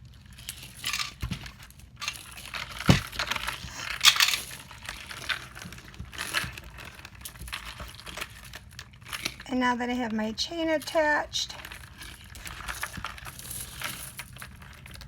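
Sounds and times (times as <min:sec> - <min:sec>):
clicks and rustles: 0:00.0 - 0:15.0
small metal chain clinking: 0:00.2 - 0:09.4, 0:11.0 - 0:15.0.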